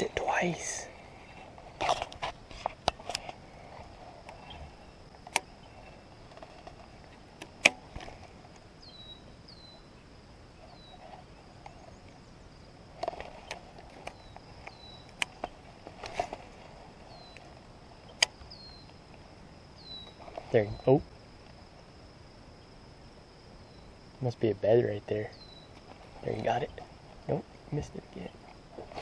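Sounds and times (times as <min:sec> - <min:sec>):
faint high-pitched hum: 0:00.0 - 0:29.0.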